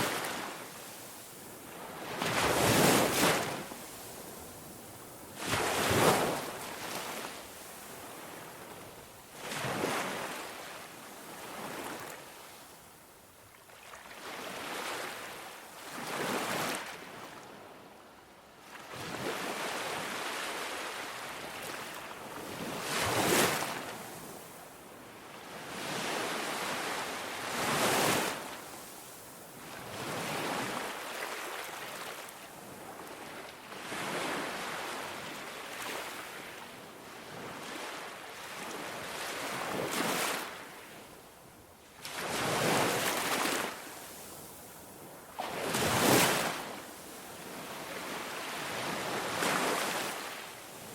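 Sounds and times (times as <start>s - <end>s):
ocean waves breaking on beach: 0.0s - 12.8s, 18.7s - 41.3s, 41.9s - 50.9s.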